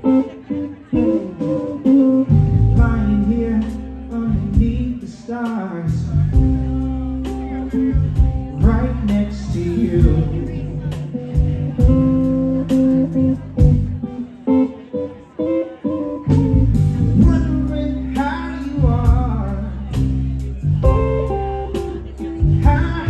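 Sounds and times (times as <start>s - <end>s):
electric guitar: 0.0s - 23.0s
electric bass: 1.0s - 14.4s, 16.2s - 23.0s.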